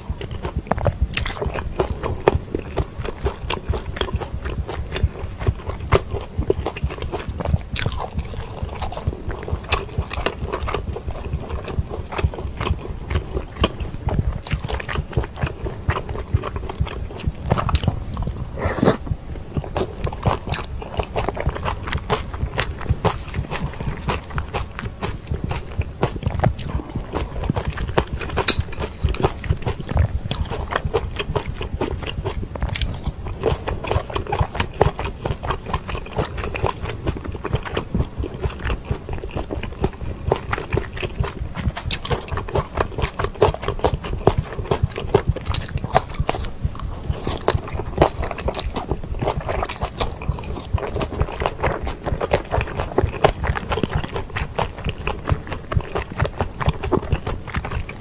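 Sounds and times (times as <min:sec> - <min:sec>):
wet chewing noodles: 0:00.0 - 0:58.0.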